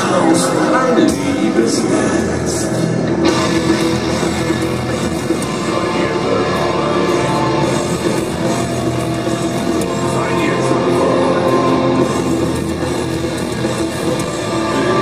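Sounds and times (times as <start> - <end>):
heavy rock music: 0.0 - 15.0.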